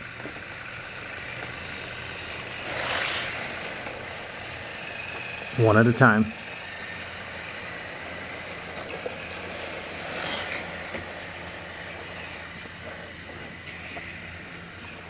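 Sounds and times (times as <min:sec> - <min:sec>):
toy train motor whir: 0:00.0 - 0:15.0
toy wheels rattling on track: 0:00.0 - 0:15.0.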